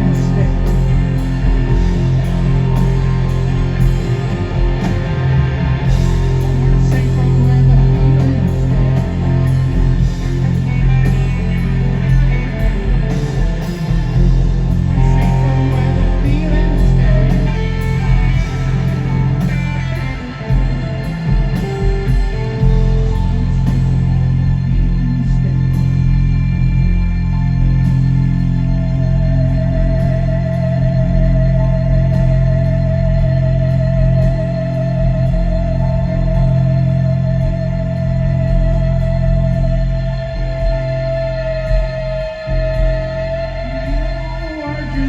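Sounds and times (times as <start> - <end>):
live rock band playing: 0.0 - 45.0
sustained electric guitar notes: 0.0 - 45.0.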